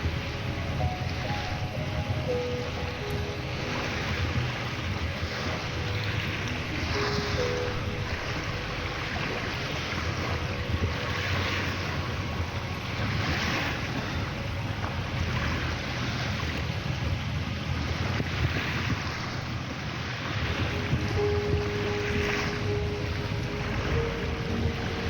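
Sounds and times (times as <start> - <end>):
sea waves washing in: 0.0 - 25.0
wind buffeting microphone: 0.0 - 25.0.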